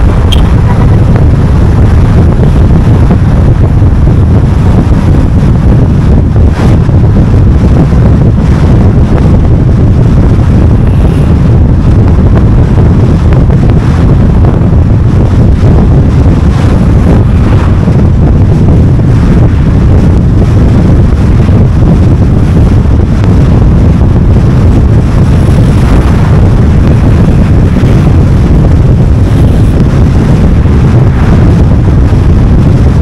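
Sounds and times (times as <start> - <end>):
road and tyre noise: 0.0 - 33.0
wind buffeting microphone: 0.0 - 33.0.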